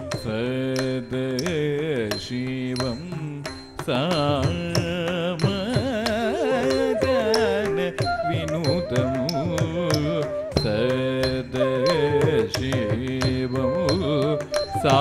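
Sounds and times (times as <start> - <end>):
man singing long ornamented notes: 0.0 - 15.0.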